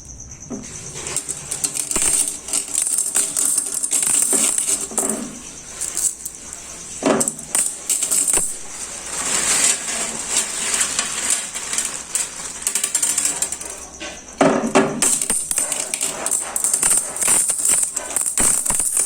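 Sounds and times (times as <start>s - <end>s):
stones clattering into glass bowl: 0.7s - 19.0s.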